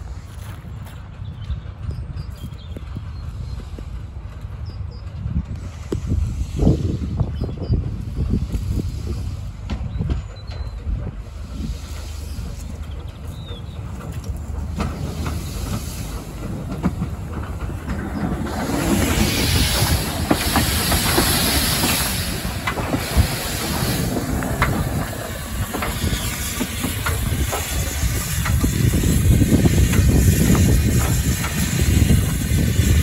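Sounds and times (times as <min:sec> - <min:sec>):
locomotive running gear rumble: 0:00.0 - 0:33.0
steam hissing: 0:05.6 - 0:10.3, 0:10.9 - 0:33.0.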